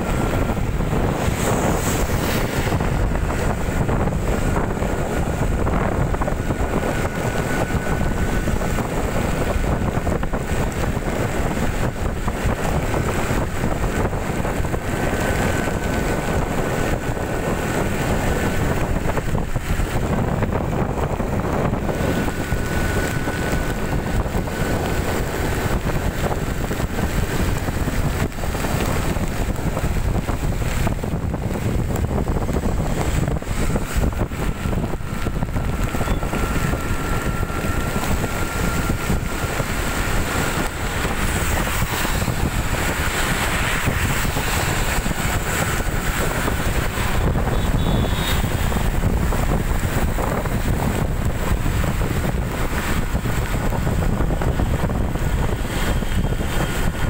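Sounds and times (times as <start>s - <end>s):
motorcycle running on wet road: 0.0s - 57.0s
wind rush on microphone: 0.0s - 57.0s.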